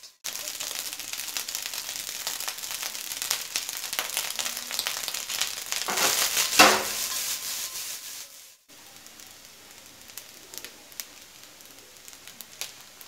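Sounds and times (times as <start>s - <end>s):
rice sizzling in a wok: 0.0s - 13.0s
light crackles: 0.3s - 7.4s, 8.7s - 13.0s.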